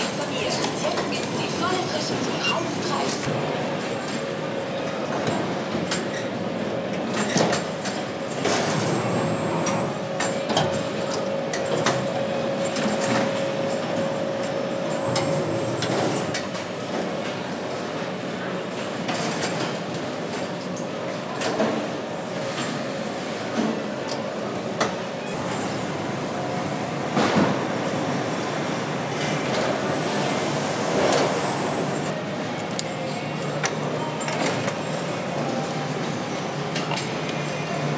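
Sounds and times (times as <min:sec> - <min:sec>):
conveyor clicks and clanks: 0:00.0 - 0:37.9
machinery hum with whine: 0:00.0 - 0:37.9.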